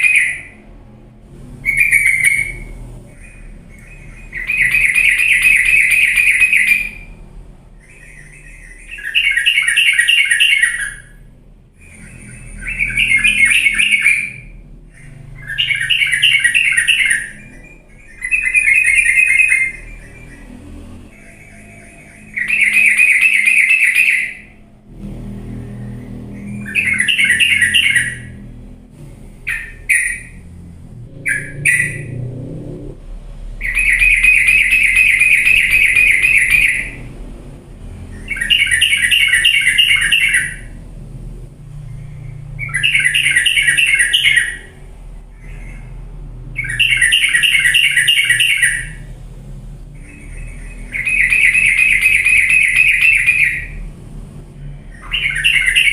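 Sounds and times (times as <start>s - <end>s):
bulbul song: 0.0s - 32.4s, 33.4s - 41.0s, 41.8s - 54.0s, 54.6s - 55.9s.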